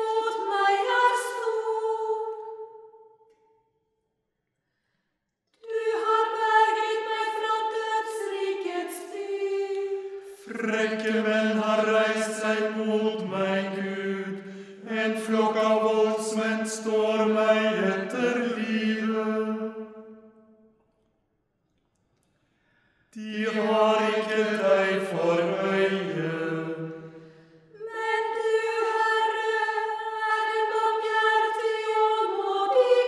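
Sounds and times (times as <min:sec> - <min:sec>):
choir chanting: 0:00.0 - 0:02.9, 0:05.6 - 0:20.2, 0:23.2 - 0:33.0.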